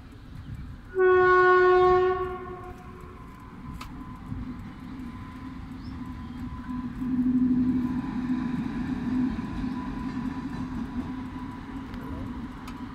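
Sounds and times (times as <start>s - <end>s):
locomotive passing: 0.0s - 12.9s.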